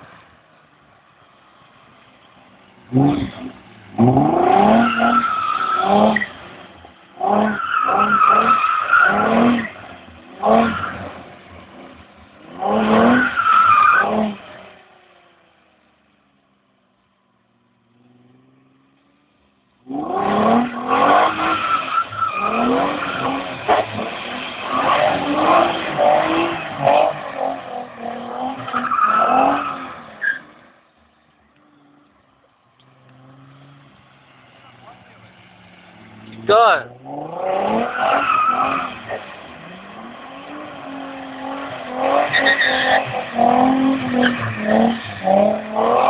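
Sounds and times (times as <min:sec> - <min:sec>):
car engine revving: 0:02.2 - 0:15.4, 0:17.8 - 0:30.8, 0:31.4 - 0:46.0.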